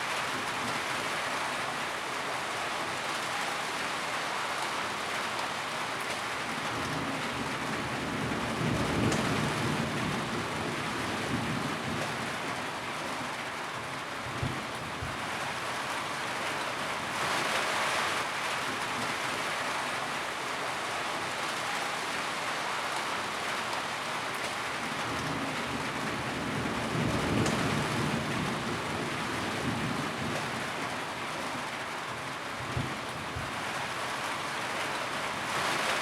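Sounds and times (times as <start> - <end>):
heavy rain on a tin roof: 0.0 - 36.0.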